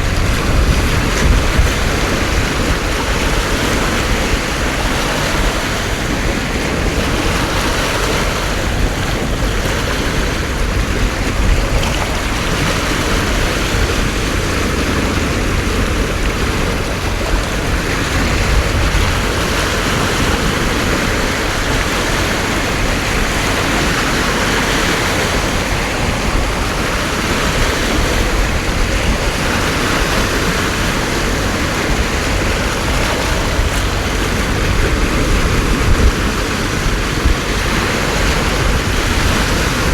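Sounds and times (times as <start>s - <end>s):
heavy rain pouring: 0.0s - 39.9s
wind rumble on microphone: 0.0s - 39.9s.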